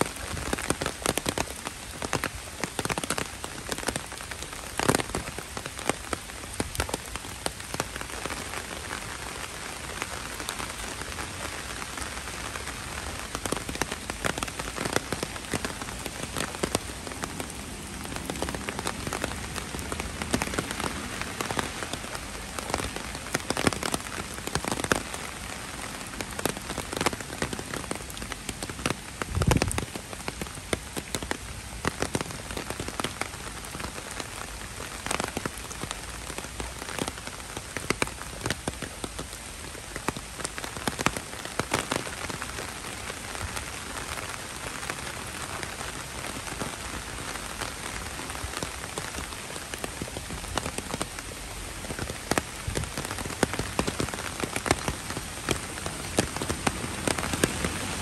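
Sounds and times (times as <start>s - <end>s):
heavy rain splashing: 0.0s - 58.0s.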